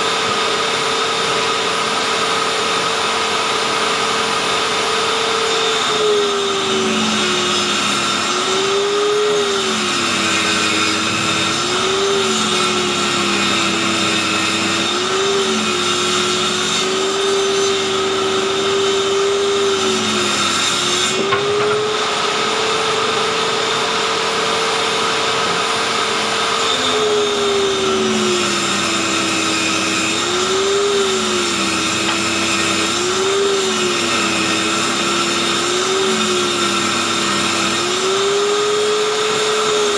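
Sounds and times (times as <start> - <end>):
table saw ripping boards: 3.9 - 39.9.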